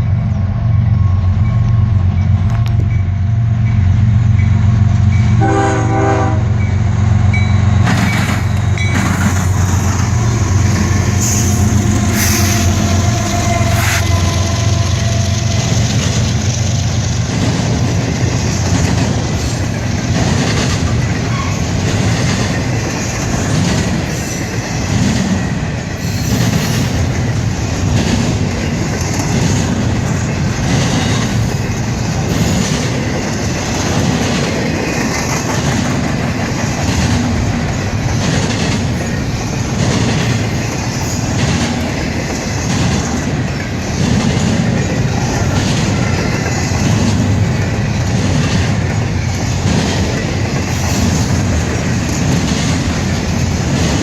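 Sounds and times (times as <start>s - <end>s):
freight train rumbling: 0.0s - 54.0s
train wheels clicking on rail joints: 6.6s - 54.0s.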